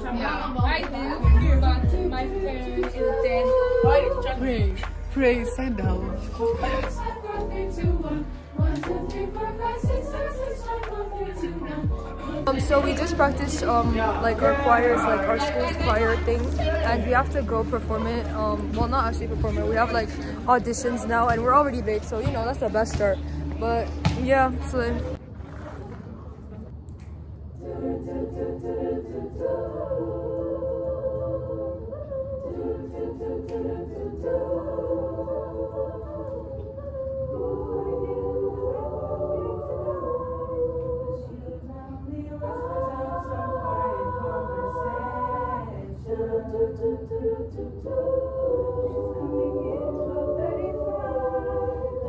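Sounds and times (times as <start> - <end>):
girls' choir singing unaccompanied: 0.0 - 25.2, 27.4 - 52.0.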